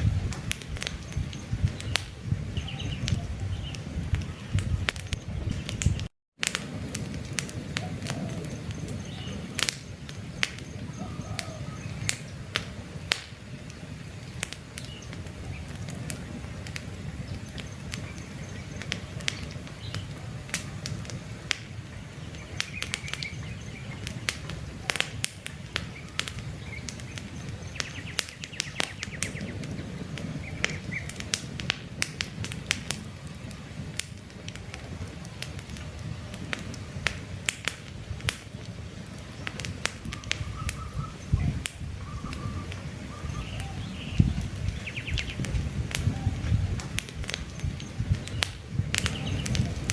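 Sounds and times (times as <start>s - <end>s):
birds chirping: 0.0s - 6.1s, 7.5s - 31.6s, 38.6s - 49.9s
campfire crackling and popping: 0.0s - 49.9s
low rumble of flame: 0.0s - 49.9s.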